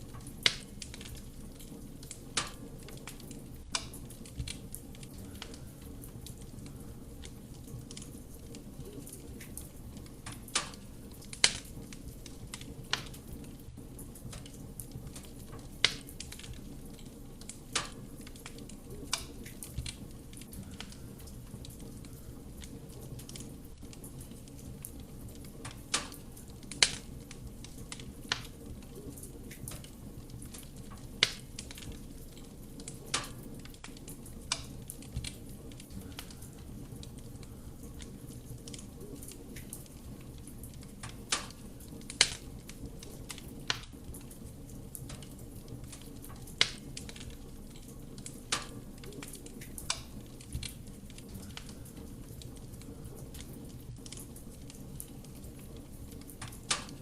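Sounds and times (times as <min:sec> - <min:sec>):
fire flame rumbling: 0:00.0 - 0:57.0
wood crackling and popping: 0:00.0 - 0:57.0.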